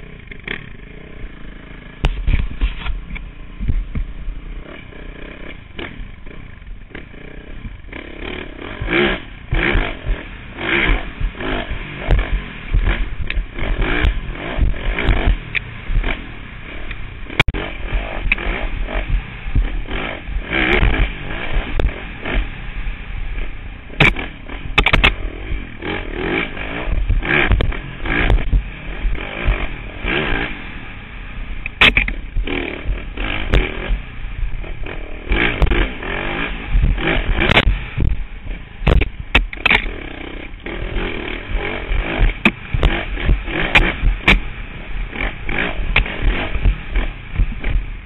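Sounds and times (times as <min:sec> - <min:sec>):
knocks and clatter of bike: 0:00.0 - 0:22.6, 0:23.3 - 0:30.6, 0:31.6 - 0:48.0
dirt bike engine revving: 0:00.0 - 0:48.0.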